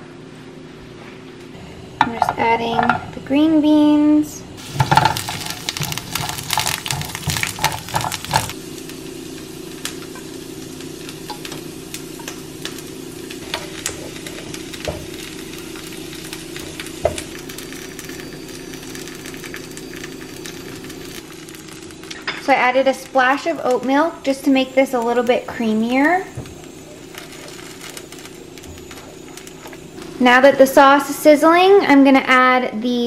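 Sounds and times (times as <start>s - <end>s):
low hum: 0.0s - 31.5s
food sizzling in frying pan: 4.6s - 32.0s.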